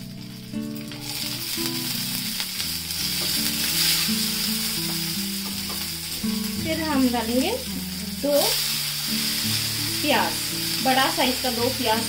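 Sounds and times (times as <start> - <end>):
chillies sizzling in hot oil: 0.0 - 12.0.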